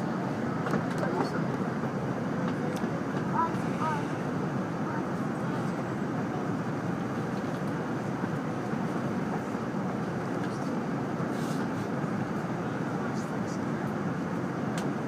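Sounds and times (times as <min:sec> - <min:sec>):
train rumble and hiss: 0:00.0 - 0:15.0.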